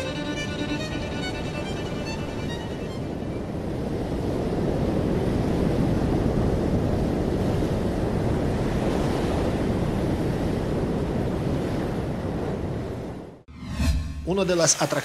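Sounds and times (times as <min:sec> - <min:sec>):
surf waves breaking: 0:00.0 - 0:13.4
wind on microphone: 0:00.0 - 0:13.4.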